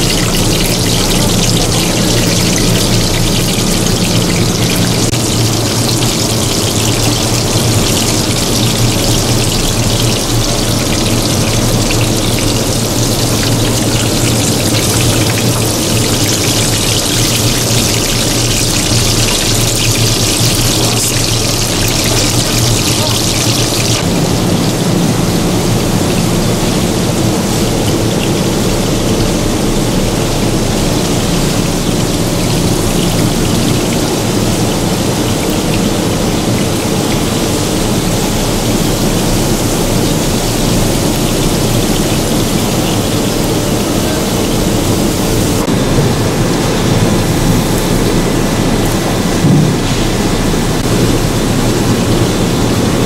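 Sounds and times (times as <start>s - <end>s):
fish sizzling in hot oil: 0.0s - 45.7s.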